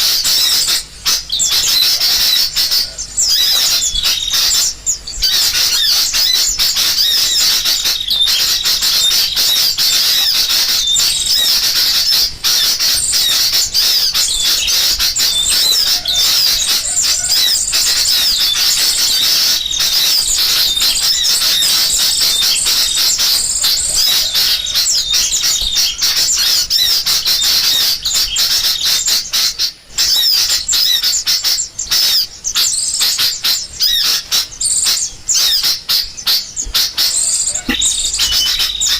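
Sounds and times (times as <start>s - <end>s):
bulbuls calling agitatedly: 0.0s - 38.9s
small songbirds chattering: 0.0s - 38.9s.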